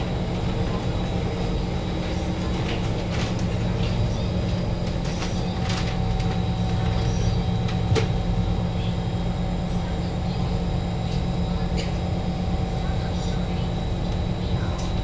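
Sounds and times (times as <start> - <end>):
train equipment hum: 0.0 - 15.0.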